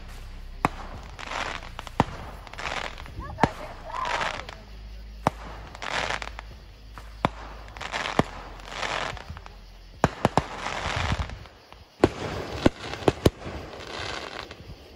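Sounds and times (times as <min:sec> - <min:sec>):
fireworks bangs: 0:00.0 - 0:14.9
fireworks crackling hiss: 0:00.0 - 0:14.9.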